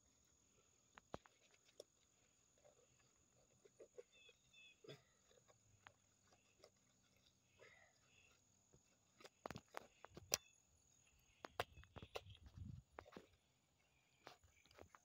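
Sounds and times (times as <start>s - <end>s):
hands digging wet soil: 0.2s - 15.0s.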